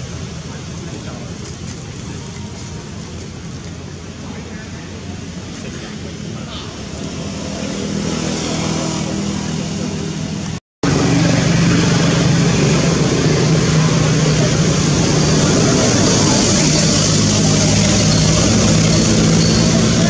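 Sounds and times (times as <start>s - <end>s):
loud motor drone: 0.0s - 20.0s.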